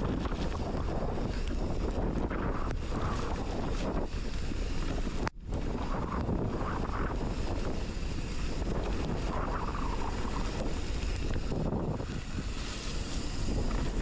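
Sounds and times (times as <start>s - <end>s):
bike rolling on dirt trail: 0.0s - 14.0s
wind buffeting microphone: 0.0s - 14.0s.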